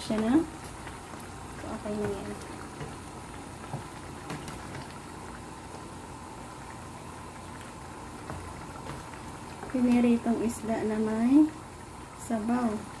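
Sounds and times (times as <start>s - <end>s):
soup bubbling in a pan: 0.0s - 13.0s.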